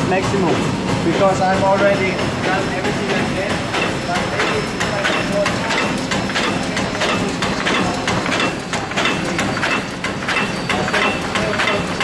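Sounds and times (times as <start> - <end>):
rhythmic machine clatter: 0.0 - 12.0.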